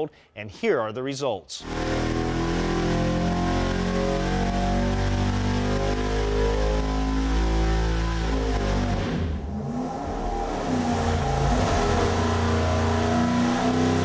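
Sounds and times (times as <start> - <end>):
engine running loudly: 1.6 - 14.0.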